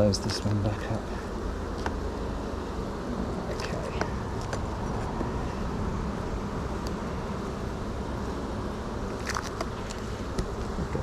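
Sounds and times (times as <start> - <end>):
hive frames clicking: 0.0 - 11.0
honeybees buzzing: 0.0 - 11.0.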